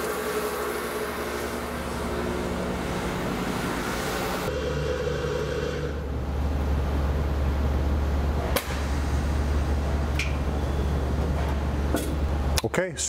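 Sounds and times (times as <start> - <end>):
machine humming: 0.0 - 12.5.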